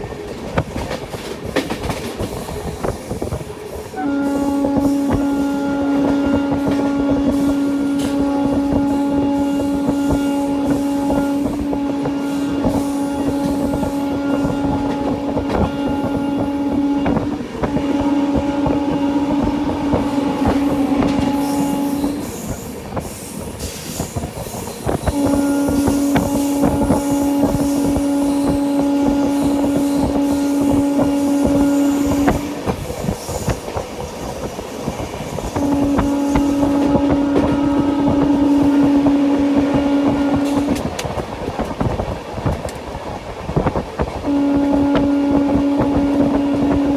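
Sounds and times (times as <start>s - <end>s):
train wheels clattering on track: 0.0s - 46.9s
train horn blasts: 3.1s - 42.6s, 43.6s - 46.9s.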